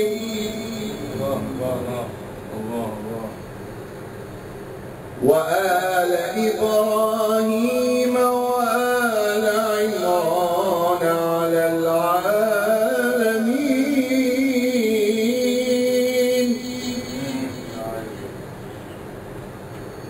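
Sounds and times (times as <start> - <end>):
man chanting melodic recitation: 0.0 - 3.4, 5.2 - 18.3.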